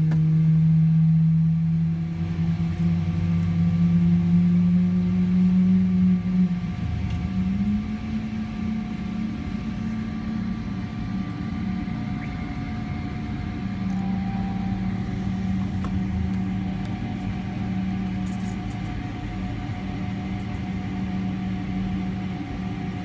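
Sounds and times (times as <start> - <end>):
aircraft cabin droning hum: 0.0 - 23.0.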